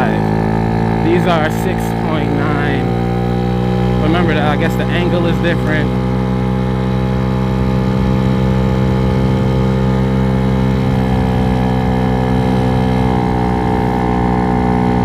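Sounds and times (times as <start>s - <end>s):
scooter engine at high revs: 0.0s - 15.0s.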